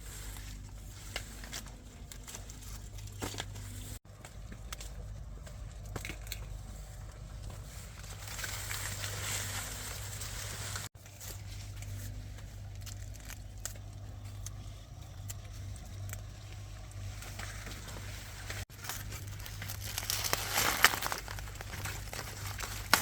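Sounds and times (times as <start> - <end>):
dry rustling and crinkling: 0.0 - 23.0
steady low hum: 0.0 - 23.0.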